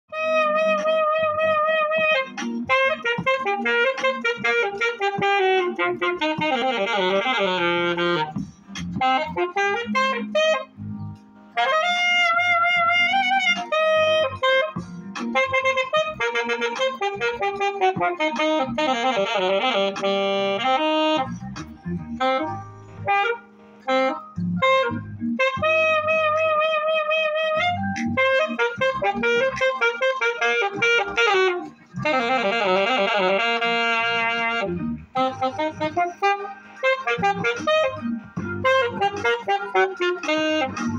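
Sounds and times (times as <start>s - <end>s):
backing track with bass line: 0.1s - 40.9s
saxophone melody: 0.1s - 40.9s.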